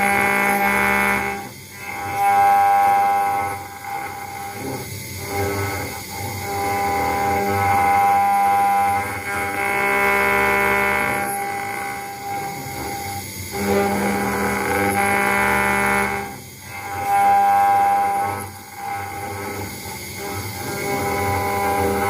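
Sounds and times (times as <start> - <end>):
router spindle high whine: 0.0 - 22.0.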